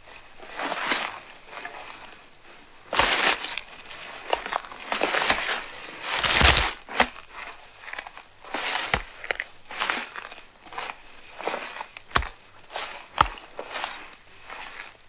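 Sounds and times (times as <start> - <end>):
crunching and rustling: 0.0 - 15.0.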